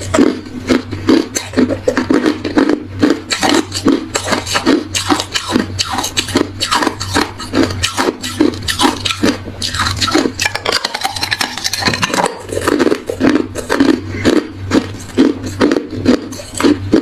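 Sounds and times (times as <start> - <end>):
person chewing hard ice: 0.0 - 17.0.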